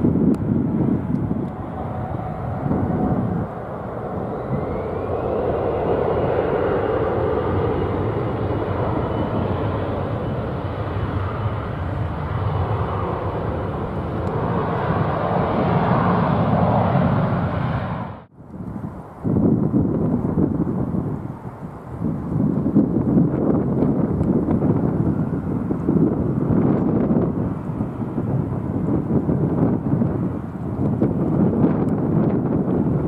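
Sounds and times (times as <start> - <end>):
jet airliner roar at takeoff: 0.0 - 33.0.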